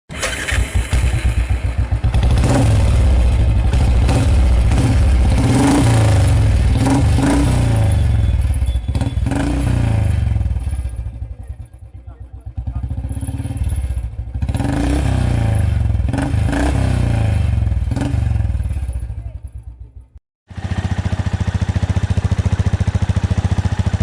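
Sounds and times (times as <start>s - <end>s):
motorcycle engine revving: 0.1s - 24.0s.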